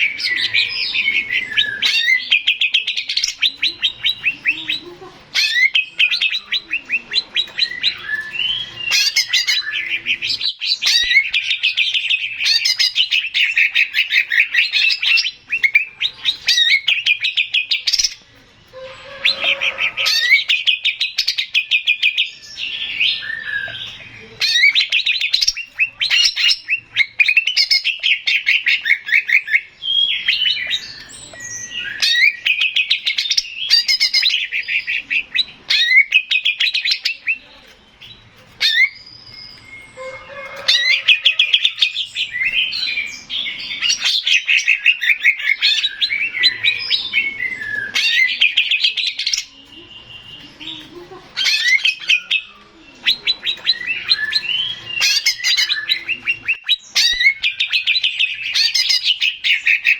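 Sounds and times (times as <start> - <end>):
bird singing chattering trills: 0.0 - 59.9.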